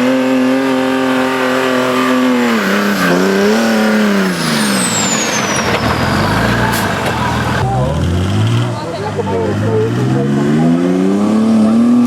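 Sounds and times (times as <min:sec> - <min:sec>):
buggy engine at high revs: 0:00.0 - 0:12.0.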